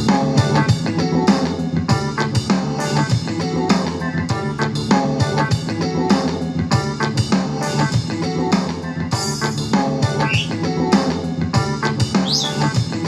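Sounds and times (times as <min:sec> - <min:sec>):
song with drums and guitar: 0:00.0 - 0:13.0.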